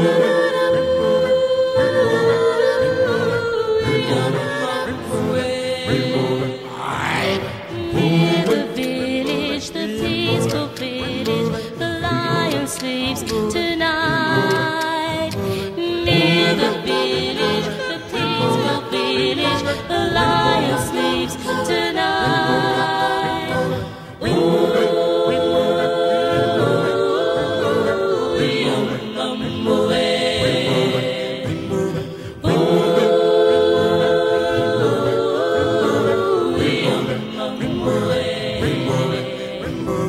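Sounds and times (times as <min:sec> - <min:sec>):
a cappella choir singing: 0:00.0 - 0:40.0.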